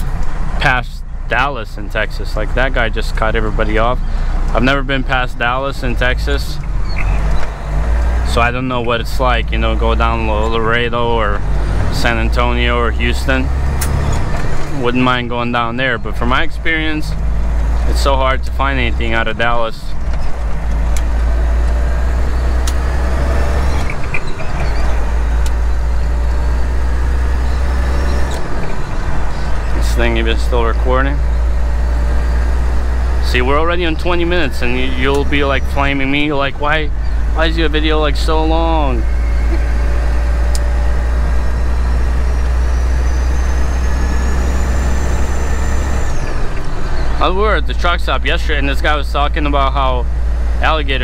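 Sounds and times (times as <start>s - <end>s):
truck engine and tyres droning: 0.0s - 51.0s.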